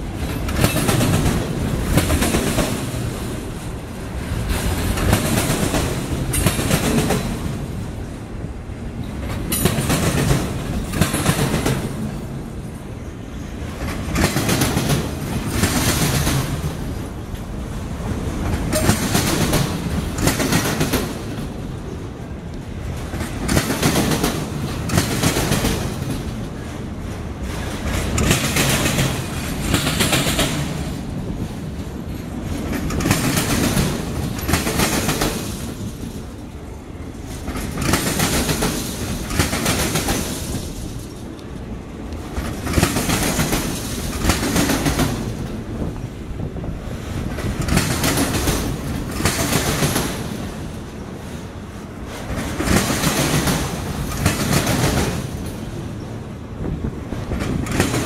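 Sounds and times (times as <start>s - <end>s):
train wheels clattering over rails: 0.0s - 8.0s, 8.9s - 41.4s, 42.1s - 58.0s.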